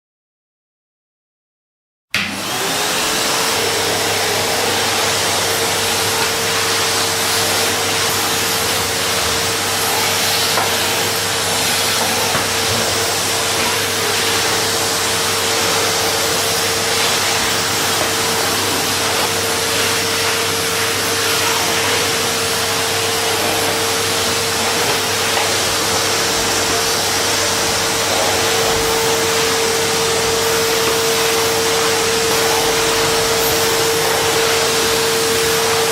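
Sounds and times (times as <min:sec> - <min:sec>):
vacuum cleaner running: 0:02.1 - 0:35.9.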